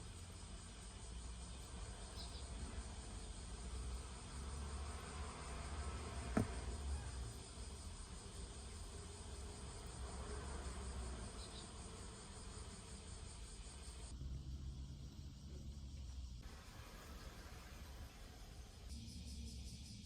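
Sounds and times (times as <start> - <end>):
faint insect chirring: 0.0 - 20.0.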